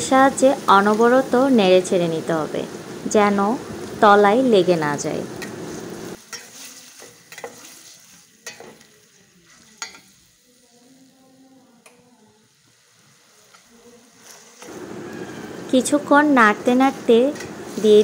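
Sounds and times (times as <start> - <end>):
paste sizzling in hot oil: 0.0 - 18.0.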